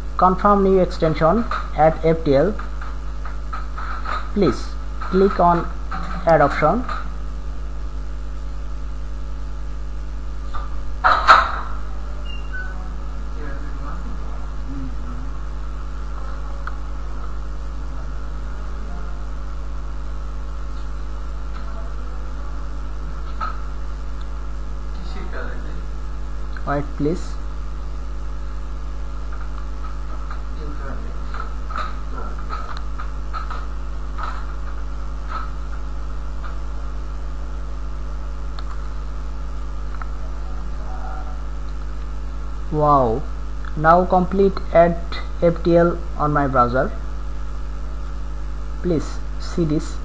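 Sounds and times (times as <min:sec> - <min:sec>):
electrical hum and hiss: 0:00.0 - 0:50.0.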